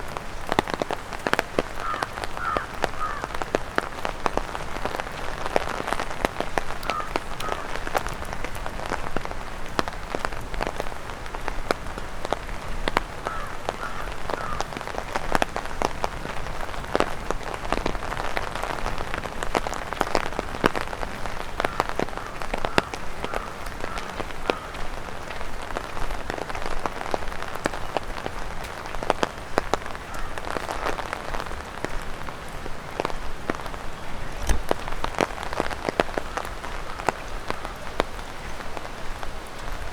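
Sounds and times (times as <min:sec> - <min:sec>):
raindrops tapping on umbrella: 0:00.0 - 0:39.9
steady rain: 0:00.0 - 0:39.9.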